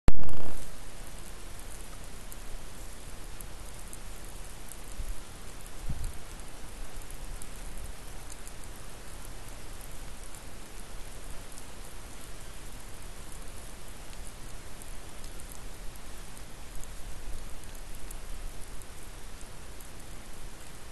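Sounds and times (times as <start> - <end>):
microphone hiss: 0.1 - 20.9
faint ticks: 0.4 - 20.8.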